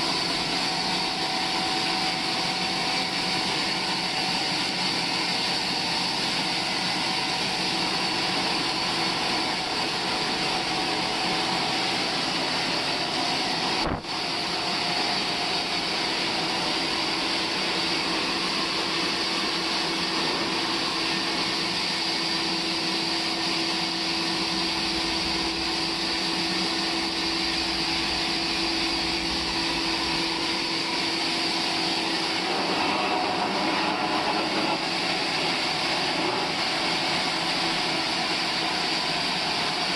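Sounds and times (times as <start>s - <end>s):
machinery whine: 0.0s - 39.9s
sawmill machinery drone: 0.0s - 39.9s.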